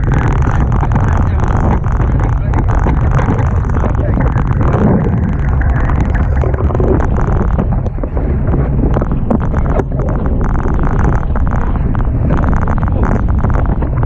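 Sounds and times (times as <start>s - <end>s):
water rushing past boat: 0.0s - 14.0s
wind buffeting microphone: 0.0s - 14.0s.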